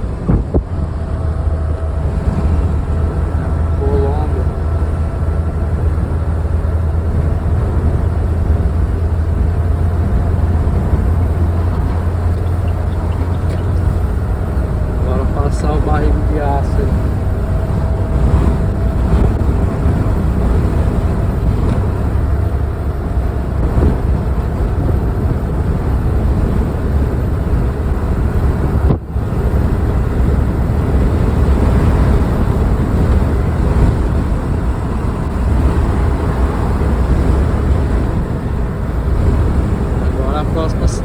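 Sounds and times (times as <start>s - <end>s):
vehicle driving noise from inside: 0.0s - 41.0s.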